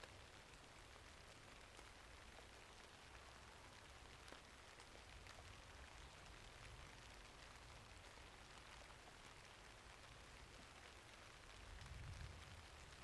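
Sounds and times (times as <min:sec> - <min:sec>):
faint rainfall: 0:00.0 - 0:13.0.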